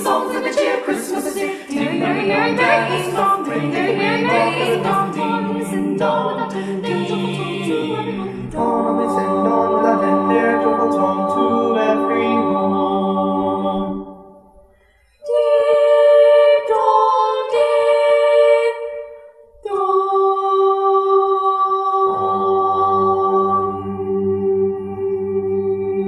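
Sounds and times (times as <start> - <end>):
choir singing a cappella: 0.0 - 26.0.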